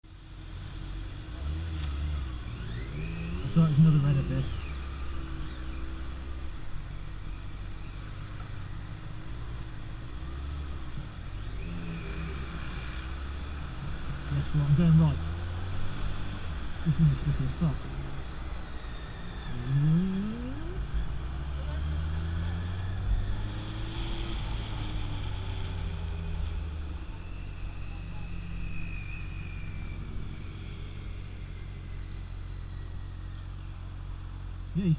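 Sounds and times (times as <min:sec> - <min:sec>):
road noise: 0:00.0 - 0:34.9
motorcycle engine: 0:00.4 - 0:34.9.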